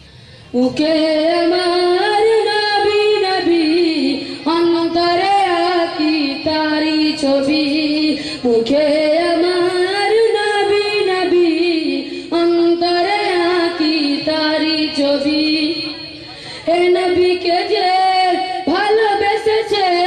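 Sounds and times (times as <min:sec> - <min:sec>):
boy singing: 0:00.6 - 0:16.0, 0:16.6 - 0:20.0.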